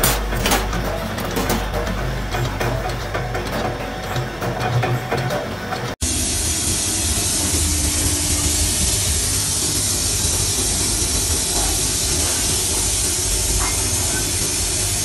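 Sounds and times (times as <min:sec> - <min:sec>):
low machinery hum: 0:00.0 - 0:15.0
machinery hissing: 0:00.0 - 0:15.0.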